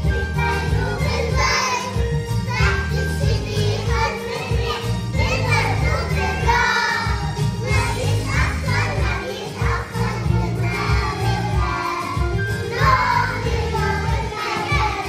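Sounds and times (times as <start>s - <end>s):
backing track with bass line: 0.0s - 4.0s, 4.6s - 15.0s
children singing: 0.0s - 15.0s.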